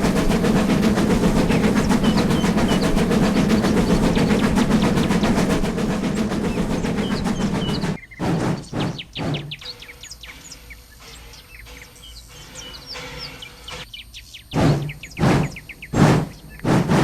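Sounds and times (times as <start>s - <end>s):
birds chirping: 0.0s - 17.0s
locomotive exhaust beats: 0.0s - 17.0s.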